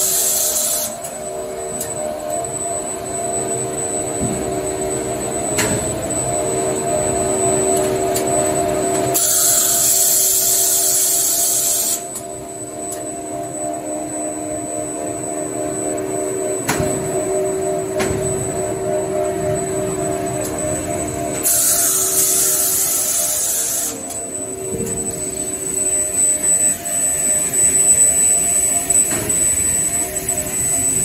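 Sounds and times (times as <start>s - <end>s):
machine hum with steady tones: 0.0s - 31.0s.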